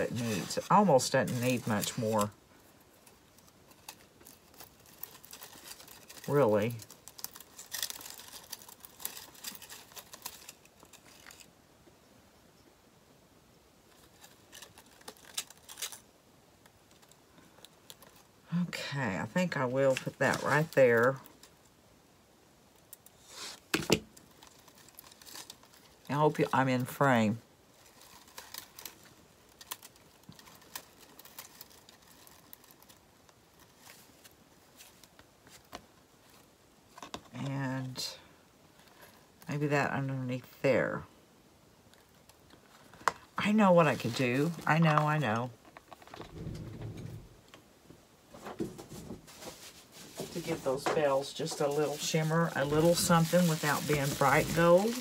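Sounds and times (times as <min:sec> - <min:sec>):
light rustling of decorations: 0:00.0 - 0:12.9, 0:13.5 - 0:55.0.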